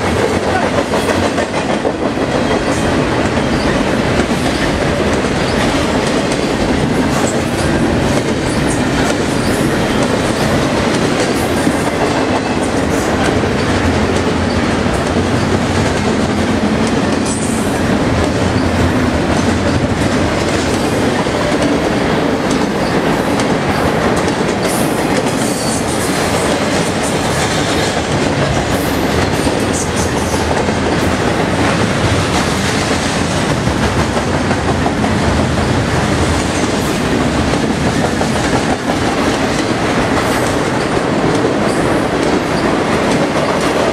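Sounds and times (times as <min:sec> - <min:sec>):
freight train wheels on rails: 0:00.0 - 0:43.9.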